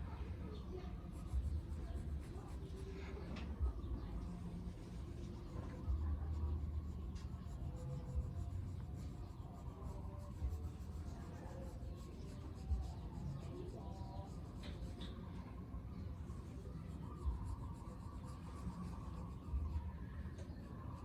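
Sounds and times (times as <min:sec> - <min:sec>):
pencil scratching on paper: 0:00.8 - 0:15.3, 0:16.2 - 0:19.8.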